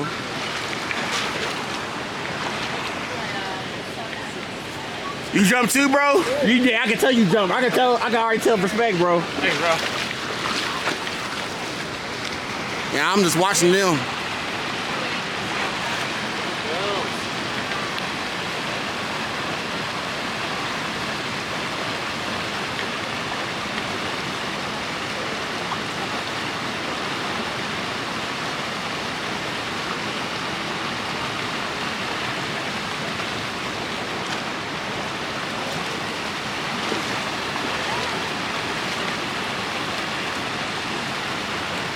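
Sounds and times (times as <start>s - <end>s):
river cascade rushing: 1.6s - 41.9s.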